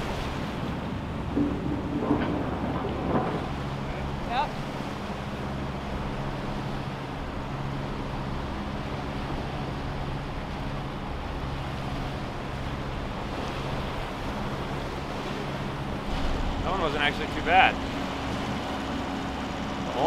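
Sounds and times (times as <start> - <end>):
boat engine humming: 0.0 - 20.0
choppy water rushing: 0.0 - 20.0
wind: 0.0 - 20.0.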